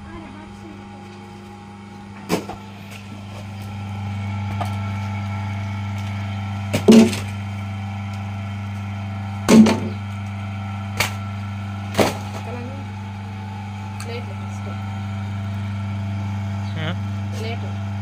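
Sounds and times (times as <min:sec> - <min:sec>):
potter's wheel motor humming: 0:00.0 - 0:18.0.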